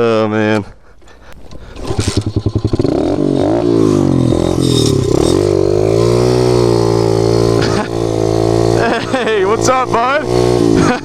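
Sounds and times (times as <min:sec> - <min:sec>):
pit bike engine revving: 0:01.4 - 0:11.0.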